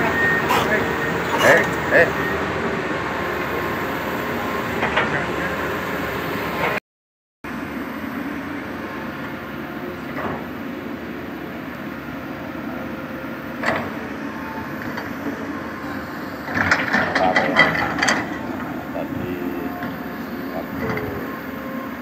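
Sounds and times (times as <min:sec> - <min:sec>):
excavator diesel engine running: 0:00.0 - 0:06.8, 0:08.2 - 0:22.0.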